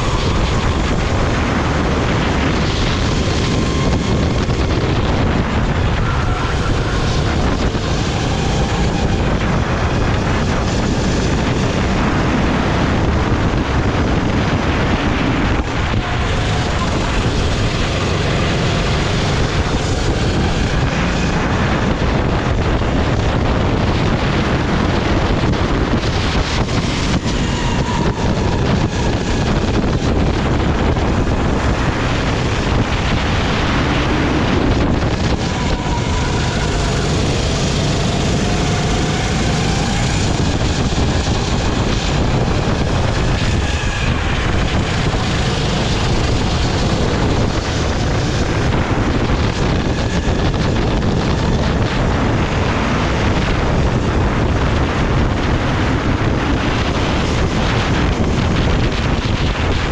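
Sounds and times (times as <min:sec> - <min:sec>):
kart engine revving: 0:00.0 - 0:59.9
wind buffeting microphone: 0:00.0 - 0:59.9.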